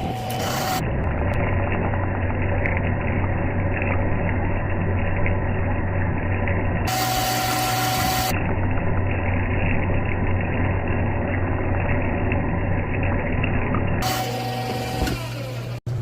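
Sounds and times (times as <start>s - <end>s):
electric motor humming: 0.0s - 16.0s.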